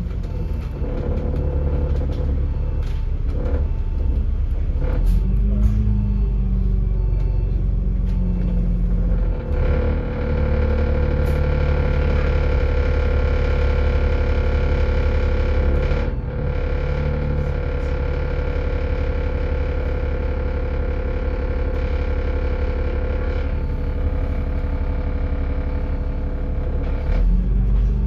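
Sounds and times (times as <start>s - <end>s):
bus engine rumble: 0.0s - 28.0s
drivetrain whine: 0.0s - 28.0s.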